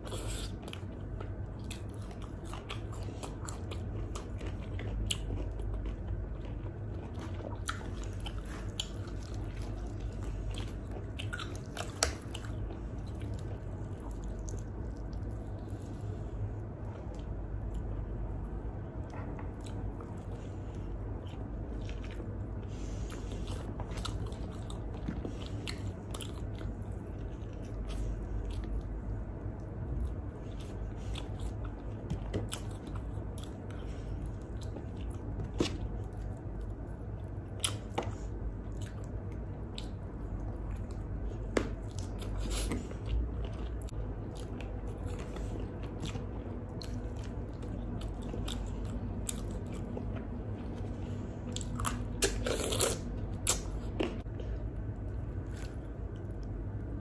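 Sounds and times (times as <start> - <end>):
chewing meat: 0.0 - 57.0.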